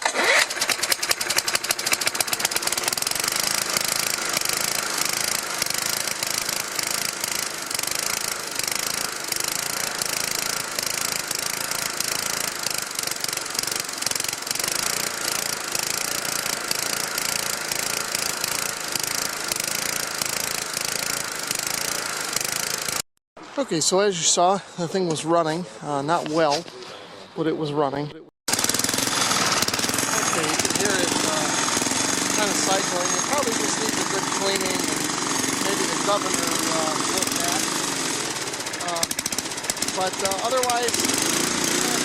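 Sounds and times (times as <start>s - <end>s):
lawn mower engine running roughly: 0.0s - 23.0s, 28.5s - 42.0s.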